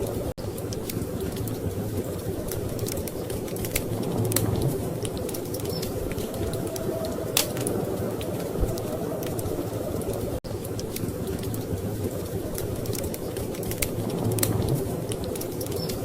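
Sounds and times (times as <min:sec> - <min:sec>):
low rumble of storm wind: 0:00.0 - 0:16.0
wood fire crackling and popping: 0:00.0 - 0:16.0.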